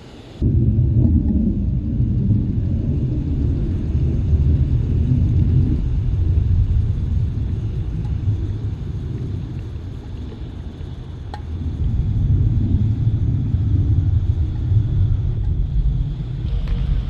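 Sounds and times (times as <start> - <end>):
low rumble: 0.4 - 17.0.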